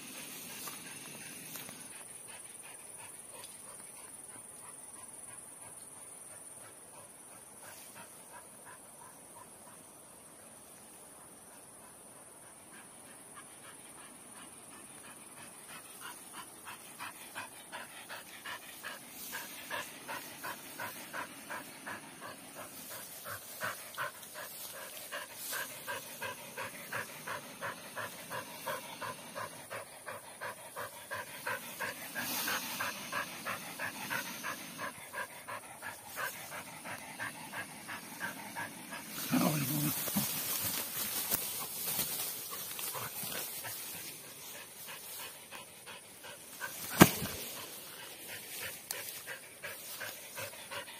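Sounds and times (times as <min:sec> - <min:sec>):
dog panting: 0:00.0 - 0:10.0, 0:11.2 - 0:50.9.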